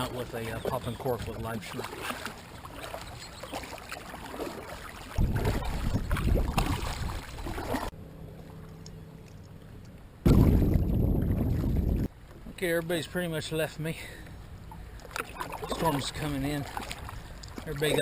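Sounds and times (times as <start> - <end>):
water splashing along a hull: 0.0 - 18.0.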